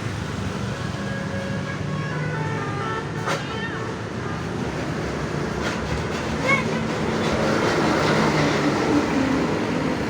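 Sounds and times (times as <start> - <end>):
bus diesel engine rumble: 0.0 - 10.0
road noise: 0.0 - 10.0.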